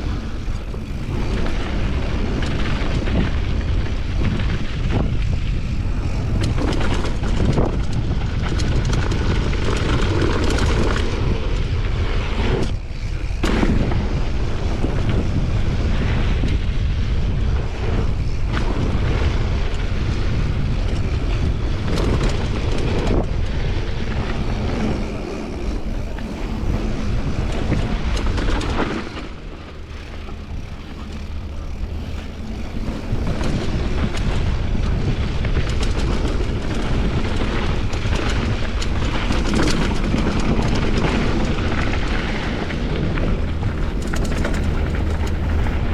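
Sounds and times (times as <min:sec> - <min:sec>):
bike rattles and knocks: 0:00.0 - 0:45.9
tyres rumbling over rough trail: 0:00.0 - 0:45.9
wind buffeting microphone: 0:00.0 - 0:45.9.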